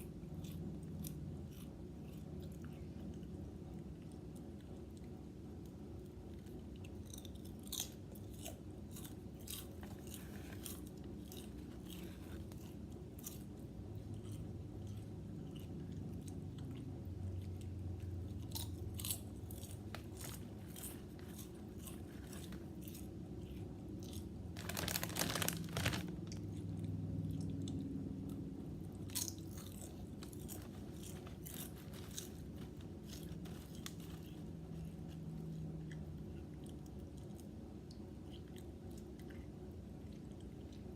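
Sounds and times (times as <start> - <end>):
chips being chewed: 0.0 - 40.9
low background hum: 0.0 - 40.9.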